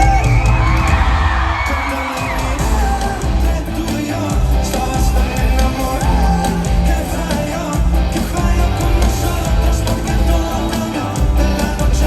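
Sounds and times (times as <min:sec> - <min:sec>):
crowd yelling: 0:00.0 - 0:12.0
live pop band playing: 0:00.0 - 0:12.0
person singing: 0:00.0 - 0:12.0.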